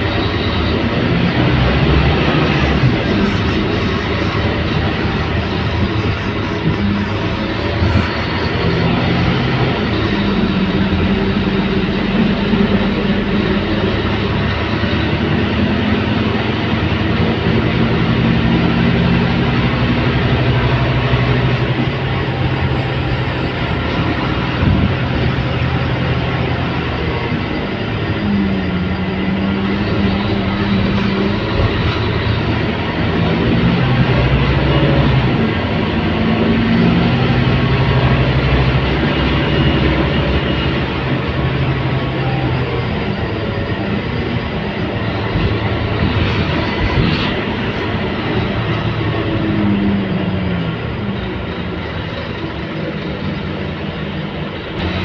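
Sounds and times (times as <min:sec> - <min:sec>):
bus diesel engine drone: 0:00.0 - 0:55.0
road noise: 0:00.0 - 0:55.0.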